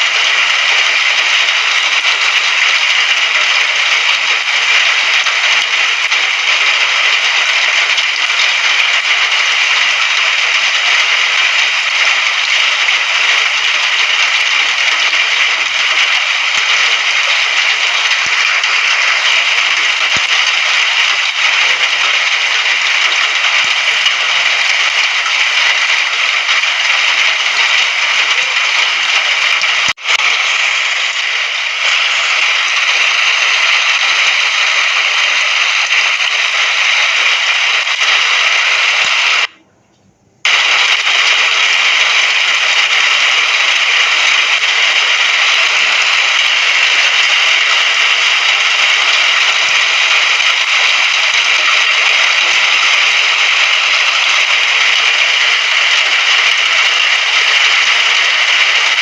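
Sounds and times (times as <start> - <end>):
heavy rain hissing: 0.0 - 39.6, 40.4 - 59.0.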